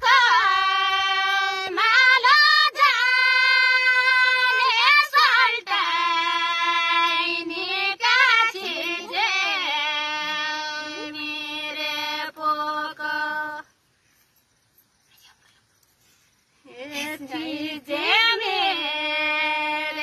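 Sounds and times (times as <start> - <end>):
woman singing unaccompanied: 0.0 - 13.7, 16.6 - 20.0.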